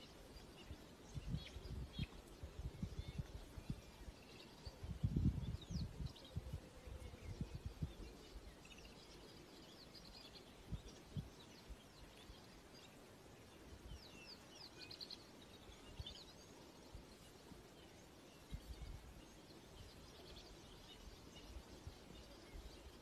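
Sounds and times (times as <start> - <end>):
wild birds chirping and trilling: 0.0 - 23.0.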